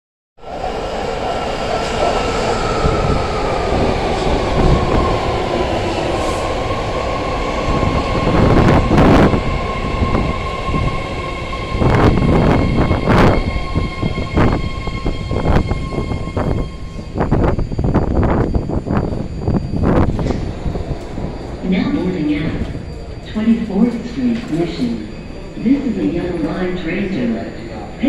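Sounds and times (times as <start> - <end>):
train rail rumble: 0.6 - 27.8.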